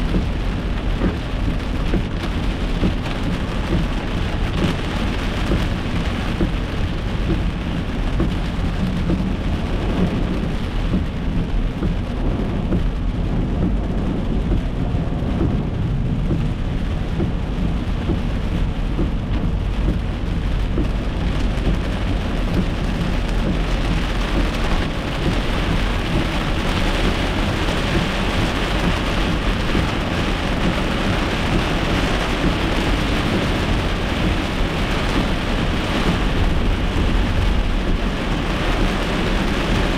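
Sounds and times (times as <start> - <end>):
heavy rain on car windshield: 0.0 - 39.9
steady low rumble: 0.0 - 39.9.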